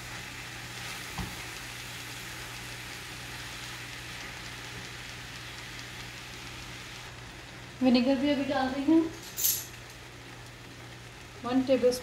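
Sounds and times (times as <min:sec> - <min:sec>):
mango and sugar sizzling in a pan: 0:00.0 - 0:12.0.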